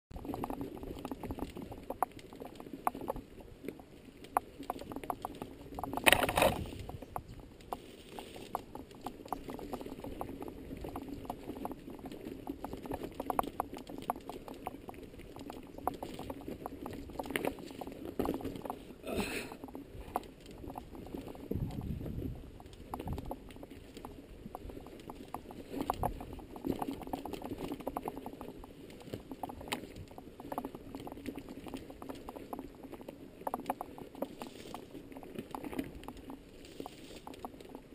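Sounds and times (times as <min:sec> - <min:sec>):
bike clicking and rattling: 0:00.1 - 0:37.9
bike tyres crunching over gravel: 0:00.3 - 0:37.9.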